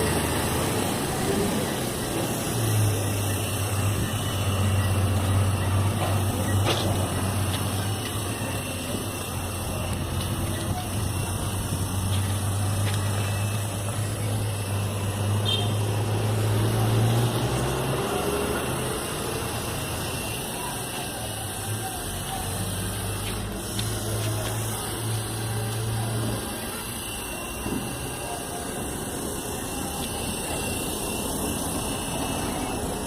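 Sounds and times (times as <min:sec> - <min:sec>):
large engine humming: 0:00.0 - 0:33.0.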